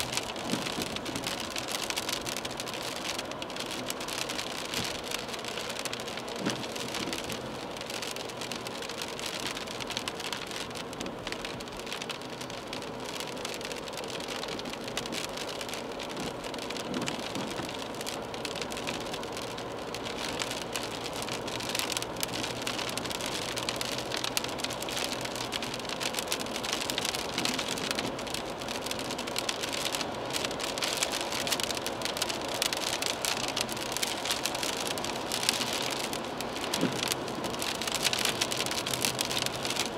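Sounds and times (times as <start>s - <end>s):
car running noise: 0.0s - 39.9s
raindrops pattering on windshield: 0.0s - 39.9s
tyres hissing on wet road: 0.0s - 39.9s.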